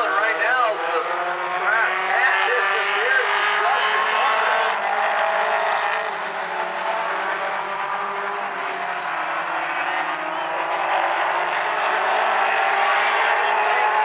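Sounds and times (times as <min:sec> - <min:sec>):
race car engines running hard: 0:00.0 - 0:14.0.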